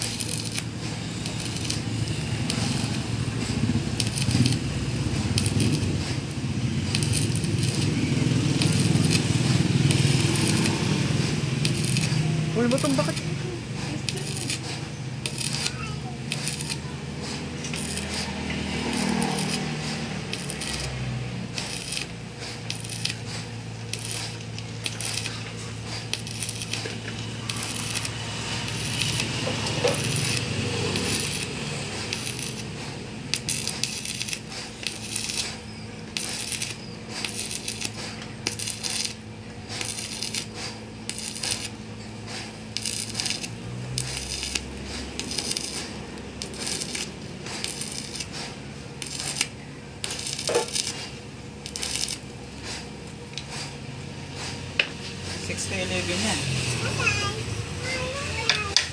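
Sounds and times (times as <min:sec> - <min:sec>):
welding arc crackling: 0:00.0 - 0:58.9.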